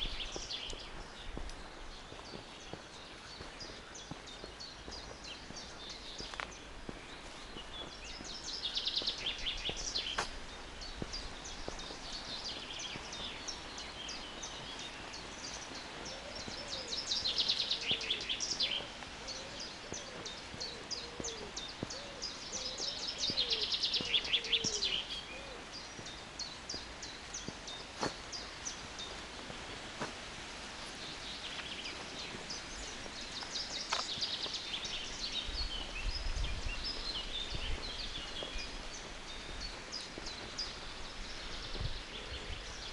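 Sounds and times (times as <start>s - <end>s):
birds chirping softly: 0.0s - 42.9s.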